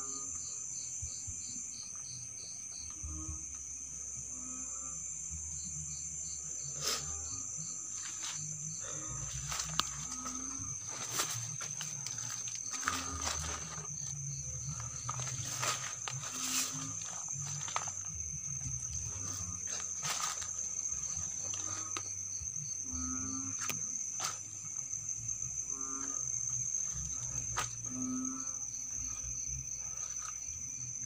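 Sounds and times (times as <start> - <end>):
night insects trilling: 0.0 - 31.0.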